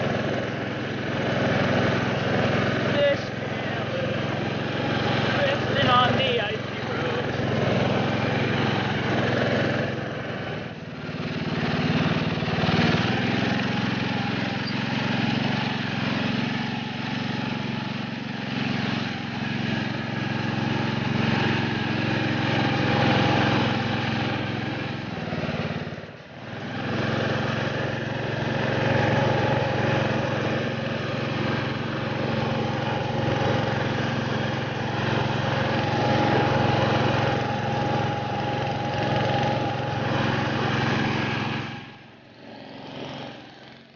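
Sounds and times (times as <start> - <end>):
lawn tractor engine running: 0.0 - 43.9.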